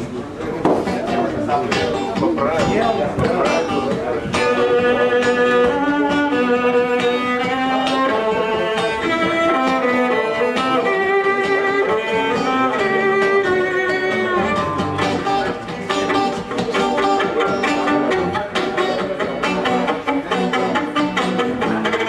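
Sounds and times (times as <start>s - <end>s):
strummed guitar: 0.0s - 22.0s
violin melody: 1.5s - 22.0s.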